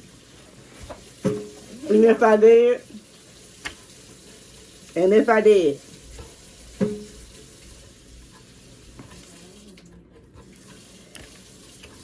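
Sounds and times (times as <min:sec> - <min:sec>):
tap water running into sink: 0:00.0 - 0:09.9, 0:10.5 - 0:12.0.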